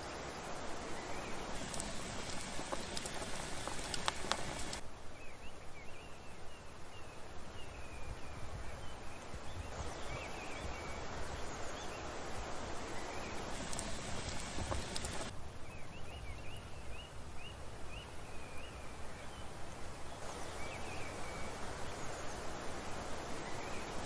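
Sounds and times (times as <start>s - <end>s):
steady hiss: 0.0s - 24.0s
small birds chirping: 0.8s - 24.0s.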